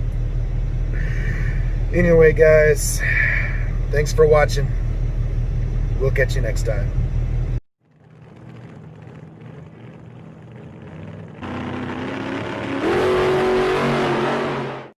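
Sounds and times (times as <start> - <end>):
car engine revving: 0.9 - 15.0.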